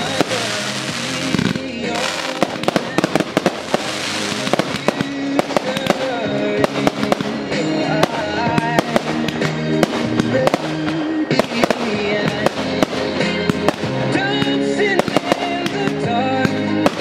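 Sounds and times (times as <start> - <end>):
fireworks bursting and crackling: 0.0 - 17.0
music track: 0.0 - 17.0.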